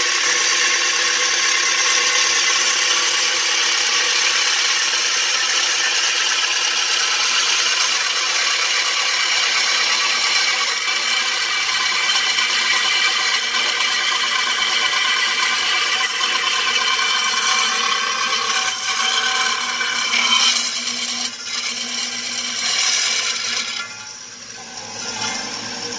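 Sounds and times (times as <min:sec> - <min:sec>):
bandsaw cutting steel: 0:00.0 - 0:25.9.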